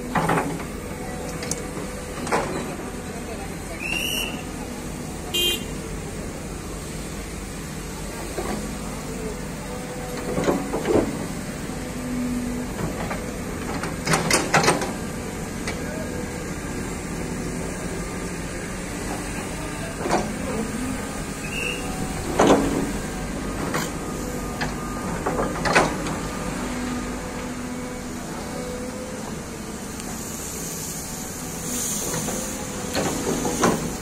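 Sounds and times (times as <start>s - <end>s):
excavators running: 0.0s - 34.0s.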